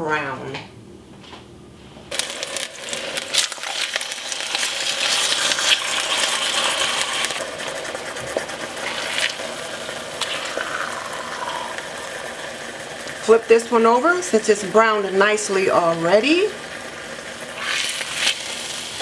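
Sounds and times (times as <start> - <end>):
steaks sizzling in oil: 2.1 - 19.0.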